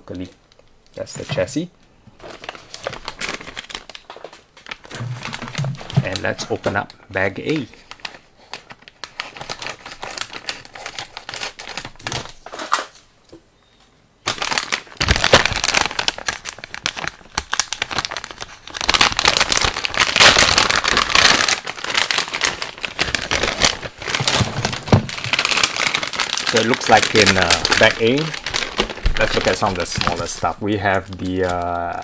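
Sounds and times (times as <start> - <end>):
plastic bag crinkling: 0.0 - 13.0, 14.2 - 32.0.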